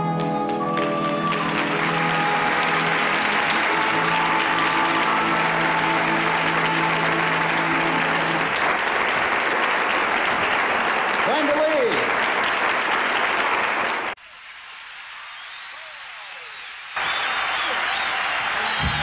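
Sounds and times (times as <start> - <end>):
audience applauding: 0.2 - 19.0.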